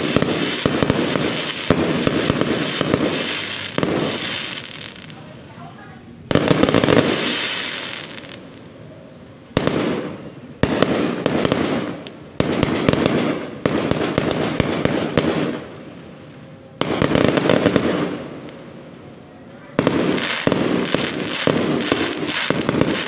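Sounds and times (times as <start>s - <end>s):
fireworks bangs: 0.0s - 8.8s, 9.4s - 23.0s
fireworks crackling: 0.0s - 23.0s.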